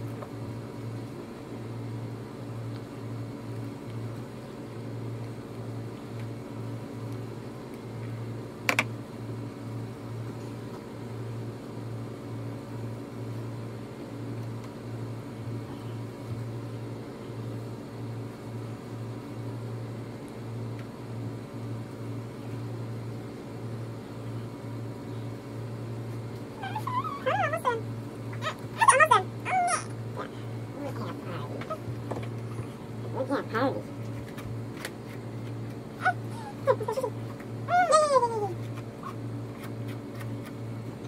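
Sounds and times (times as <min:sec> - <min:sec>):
throbbing mechanical hum: 0:00.0 - 0:41.0.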